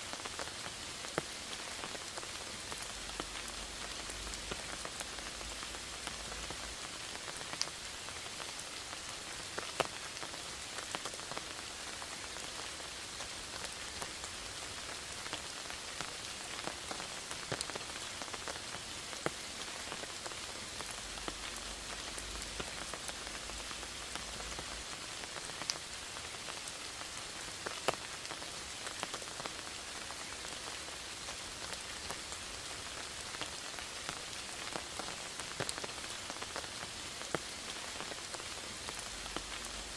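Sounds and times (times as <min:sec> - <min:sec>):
steady rain hiss: 0:00.0 - 0:39.9
raindrops ticking close by: 0:00.1 - 0:39.9.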